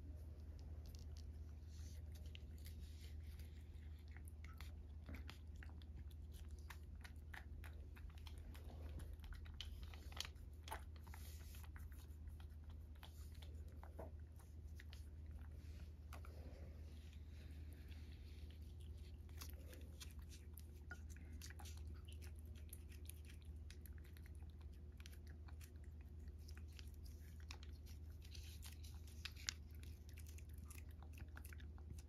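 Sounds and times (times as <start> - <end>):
steady low hum: 0.0 - 32.0
cat licking wet clicks: 4.0 - 16.4, 18.5 - 32.0.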